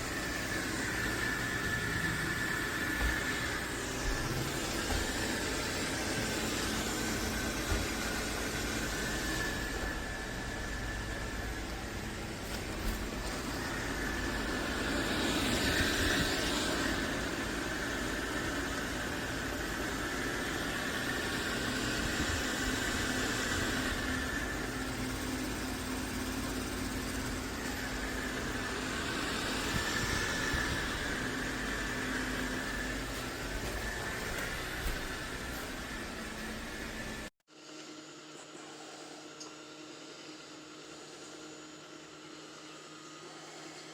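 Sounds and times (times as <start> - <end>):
robot vacuum running: 0.0 - 37.3.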